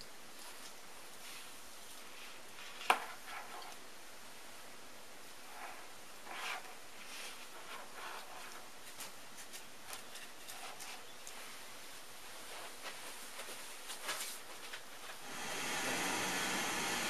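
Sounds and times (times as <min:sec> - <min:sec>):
faint rustling and handling: 0:00.0 - 0:04.6, 0:05.2 - 0:15.2.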